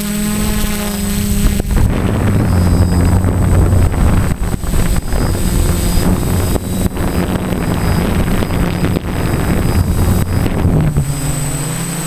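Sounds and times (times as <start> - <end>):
drone propellers whirring: 0.0 - 12.0
wind buffeting microphone: 0.2 - 12.0.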